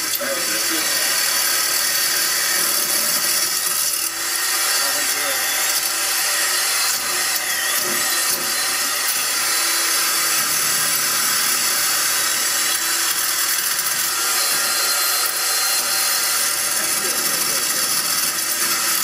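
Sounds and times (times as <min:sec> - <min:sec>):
reciprocating saw cutting plastic and metal: 0:00.0 - 0:19.0.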